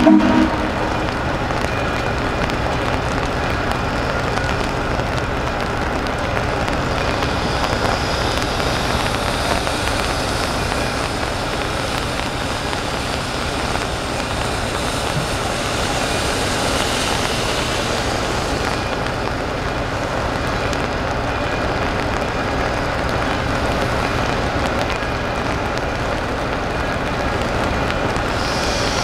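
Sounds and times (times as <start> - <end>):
steam venting hiss: 0.0 - 29.0.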